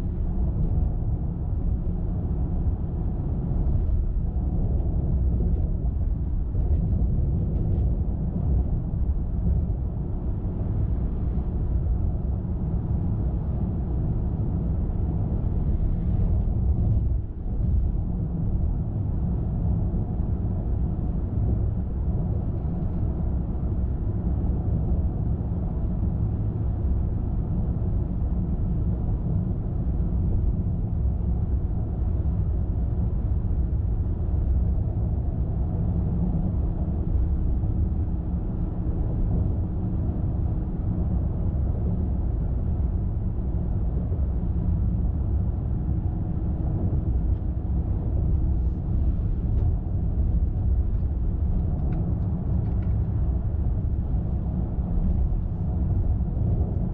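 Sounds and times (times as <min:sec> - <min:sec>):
car driving on road: 0:00.0 - 0:56.9.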